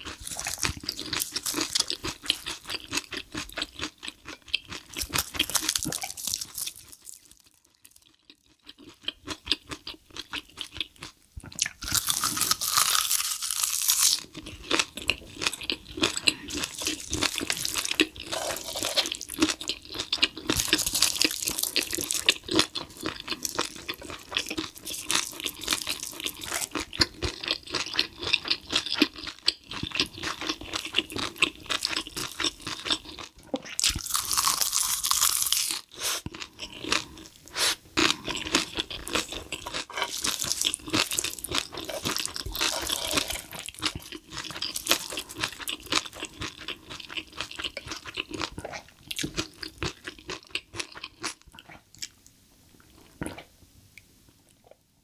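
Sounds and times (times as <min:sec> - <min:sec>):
chewing and crunching: 0:00.0 - 0:52.2.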